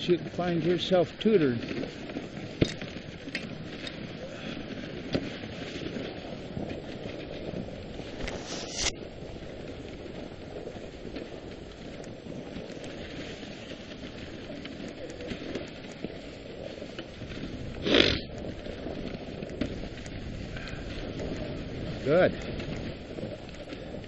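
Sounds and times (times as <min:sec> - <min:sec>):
sled runners scraping over snow: 0:00.0 - 0:24.0.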